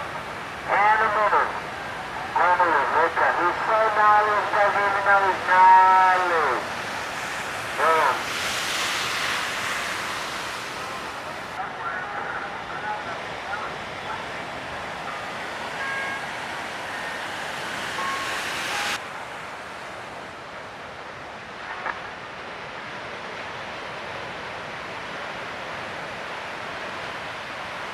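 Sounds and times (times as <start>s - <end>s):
ocean surf: 0.0s - 27.9s
wind: 0.0s - 27.9s.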